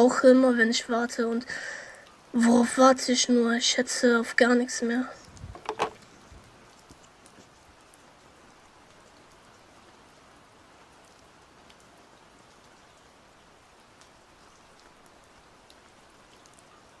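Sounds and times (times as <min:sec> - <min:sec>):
faint rain-like hiss: 0:00.0 - 0:17.0.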